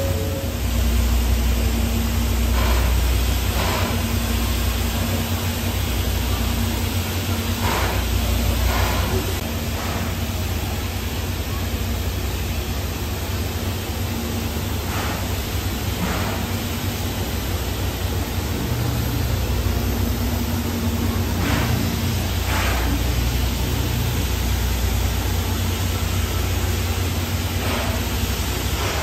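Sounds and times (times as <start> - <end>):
steam hissing: 0.0 - 29.0.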